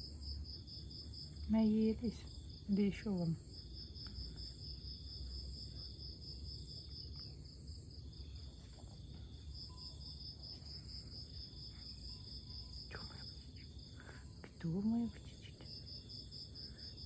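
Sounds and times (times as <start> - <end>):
insects trilling: 0.0 - 17.0
low background hum: 0.0 - 17.0.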